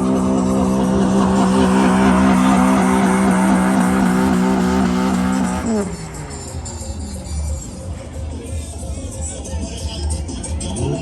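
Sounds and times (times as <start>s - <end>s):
car engine at high revs: 0.0s - 9.0s.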